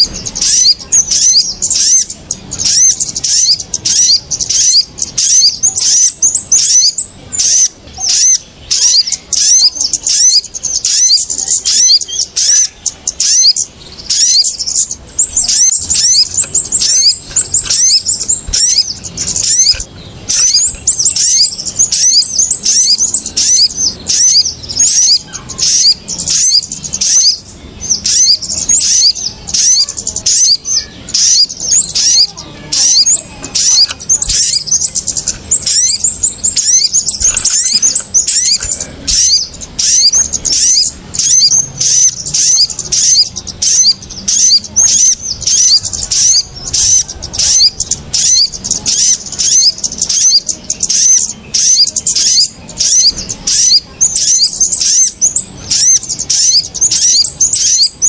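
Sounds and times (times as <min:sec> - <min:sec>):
songbirds chirping rapidly: 0:00.0 - 0:58.0.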